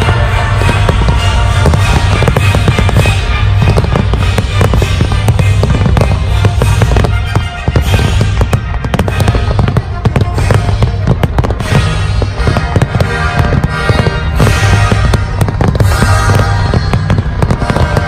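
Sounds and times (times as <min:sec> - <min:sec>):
fireworks bangs and crackles: 0:00.0 - 0:18.0
music: 0:00.0 - 0:18.0.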